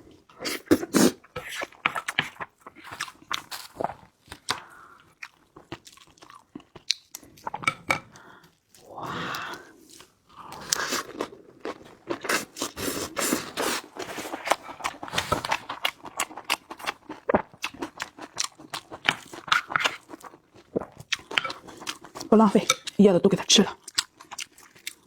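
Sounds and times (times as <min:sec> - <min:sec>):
person chewing crunchy food: 0:00.1 - 0:23.0, 0:23.8 - 0:25.0.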